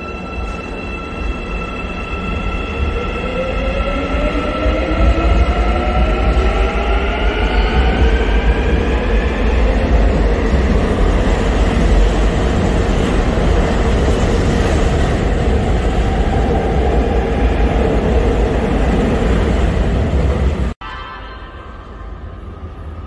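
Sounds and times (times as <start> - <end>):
subway train wheels rumbling on rails: 0.0 - 20.8.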